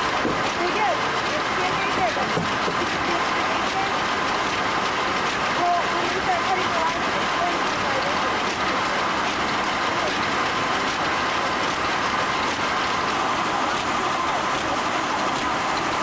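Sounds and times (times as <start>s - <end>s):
sawmill machinery running: 0.0s - 16.0s.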